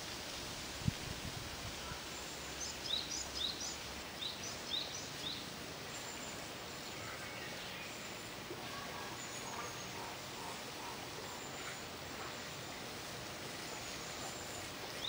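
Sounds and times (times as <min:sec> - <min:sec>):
outdoor background noise: 0:00.0 - 0:15.0
small birds chirping: 0:02.1 - 0:15.0.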